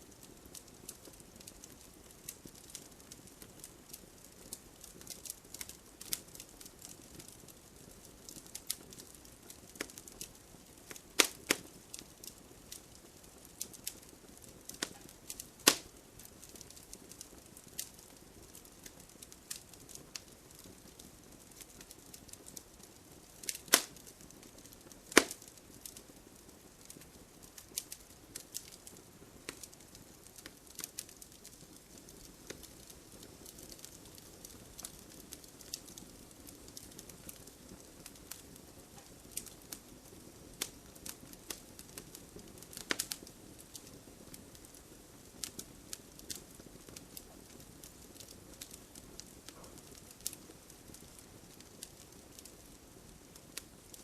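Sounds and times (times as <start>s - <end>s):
wood fire crackling: 0.0s - 54.0s
loud fire pops: 8.2s - 26.1s, 26.8s - 44.8s, 45.4s - 52.7s.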